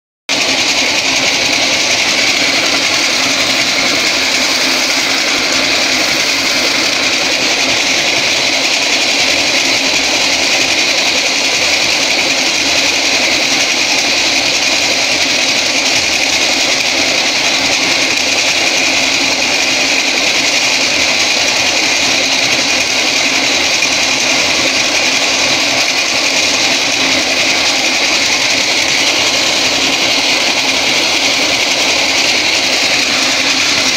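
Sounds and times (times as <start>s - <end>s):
grain mill grinding: 0.3s - 33.9s.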